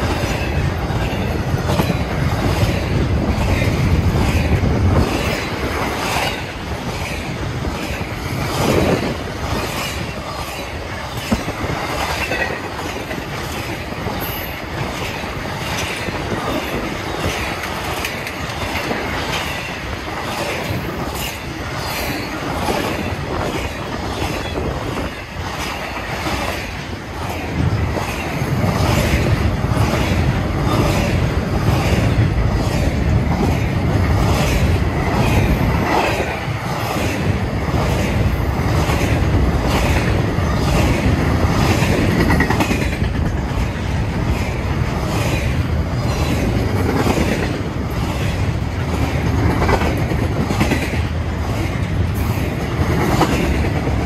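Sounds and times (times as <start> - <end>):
freight train rumbling past: 0.0 - 54.0
train wheels clicking: 0.0 - 54.0.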